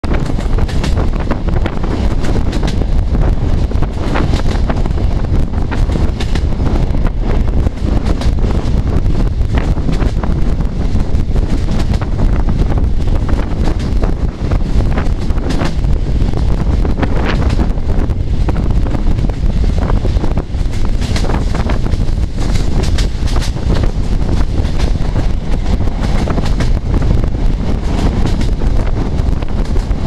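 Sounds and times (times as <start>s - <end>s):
train rumbling: 0.0s - 30.0s
train wheels clattering on track: 0.0s - 30.0s
wind buffeting microphone: 0.0s - 30.0s.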